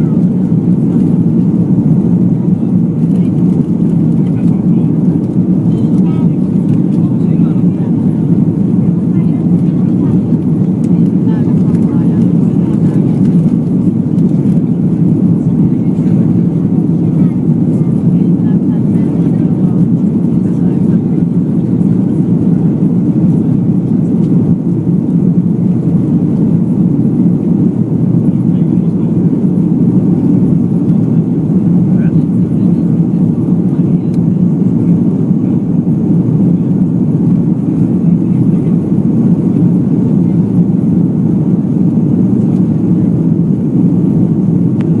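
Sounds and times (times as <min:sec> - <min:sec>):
jet engines and airflow rumble: 0:00.0 - 0:45.0.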